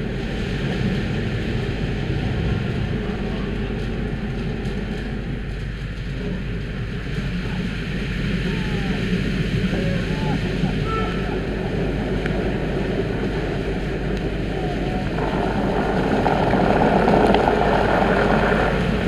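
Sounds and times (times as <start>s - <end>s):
car wash equipment running: 0.0s - 19.0s
water spraying over car: 0.0s - 19.0s.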